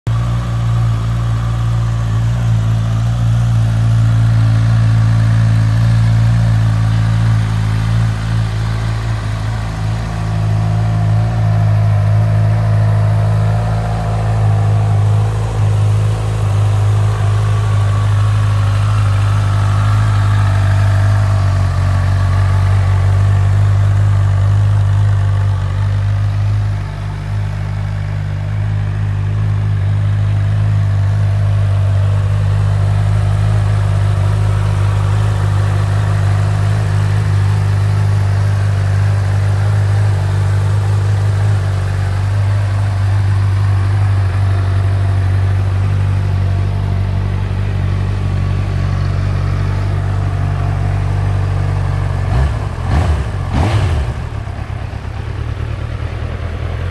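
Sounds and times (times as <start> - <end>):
motorcycle engine idling: 0.1 - 56.9.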